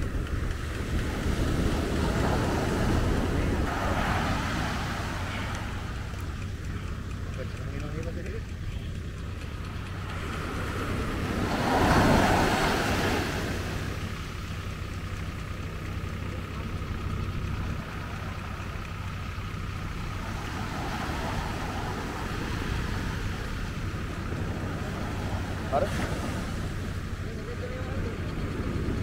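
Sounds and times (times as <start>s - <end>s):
surf breaking on beach: 0.0s - 8.1s, 9.4s - 14.9s, 17.7s - 29.0s
steady low rumble: 0.0s - 29.0s.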